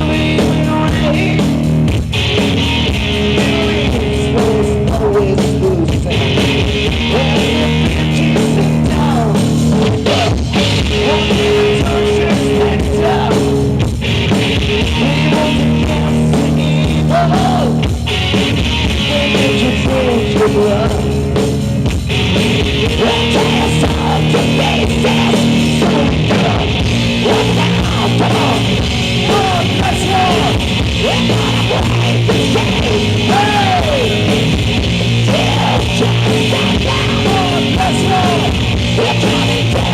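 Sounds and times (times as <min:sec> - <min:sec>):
person singing: 0:00.0 - 0:01.6, 0:03.2 - 0:13.7, 0:14.8 - 0:17.8, 0:19.0 - 0:21.2, 0:22.8 - 0:34.5, 0:35.2 - 0:39.9
bass: 0:00.0 - 0:39.9
distorted electric guitars: 0:00.0 - 0:39.9
drum kit: 0:00.0 - 0:39.9.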